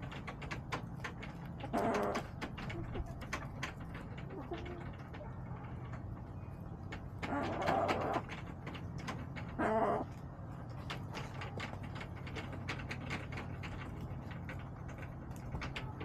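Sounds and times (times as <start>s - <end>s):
hens pecking and scratching: 0.0s - 16.0s.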